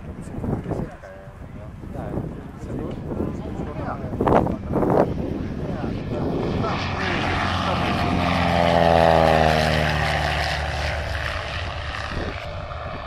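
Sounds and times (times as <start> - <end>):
propeller aircraft flying by: 0.0 - 13.0.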